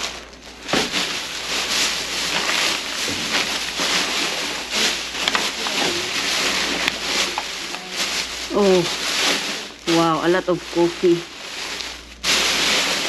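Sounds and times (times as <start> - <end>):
plastic bags rustling and crinkling: 0.0 - 13.0.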